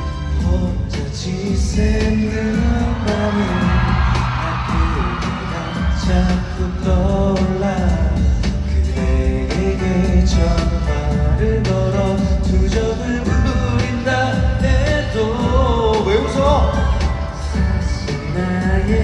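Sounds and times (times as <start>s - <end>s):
live pop song with band: 0.0s - 19.0s.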